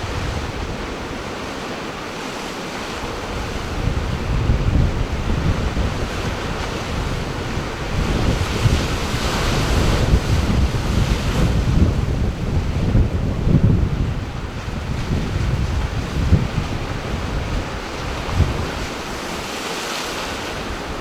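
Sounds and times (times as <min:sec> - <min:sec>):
wind buffeting microphone: 0:00.0 - 0:01.4, 0:02.9 - 0:21.0
sea surf breaking: 0:00.0 - 0:21.0.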